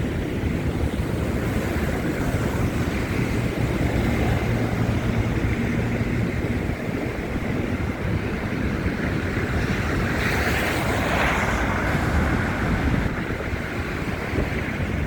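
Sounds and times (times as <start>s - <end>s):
traffic noise: 0.0s - 15.0s
wind rumbling on microphone: 0.0s - 15.0s.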